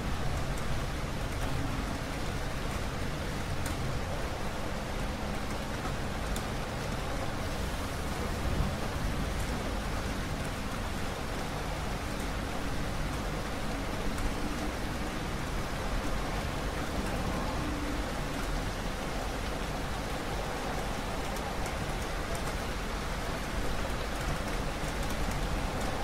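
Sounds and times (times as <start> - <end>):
steady rain falling: 0.0 - 26.0
raindrop ticks: 0.1 - 7.3, 8.6 - 26.0.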